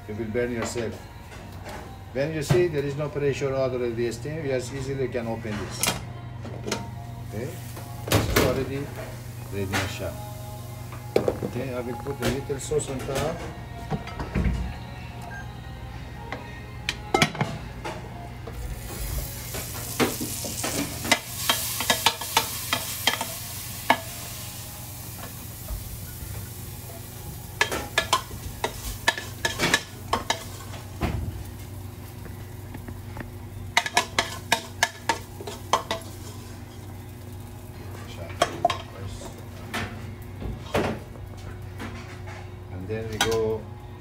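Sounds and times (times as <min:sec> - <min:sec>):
kitchen extraction hood hum: 0:00.0 - 0:44.0.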